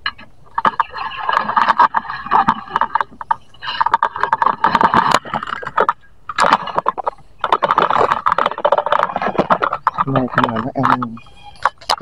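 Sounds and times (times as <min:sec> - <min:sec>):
leaves and twigs rustling: 0:00.5 - 0:12.0.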